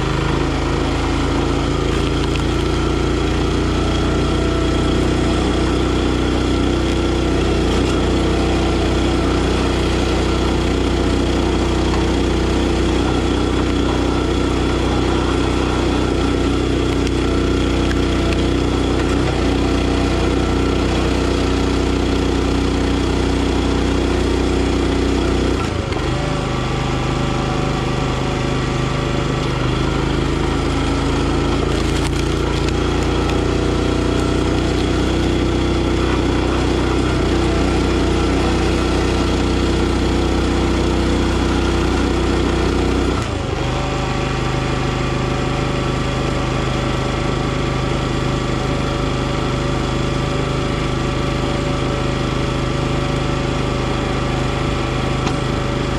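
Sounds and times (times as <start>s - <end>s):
log splitter engine running: 0.0s - 55.9s.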